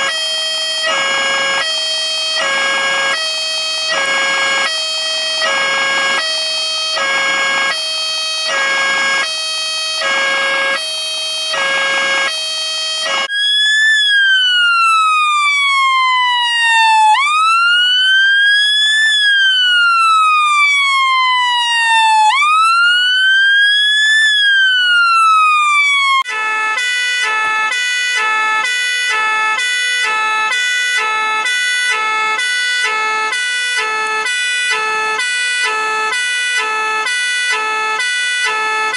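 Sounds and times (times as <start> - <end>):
fire engine siren: 0.0 - 38.9.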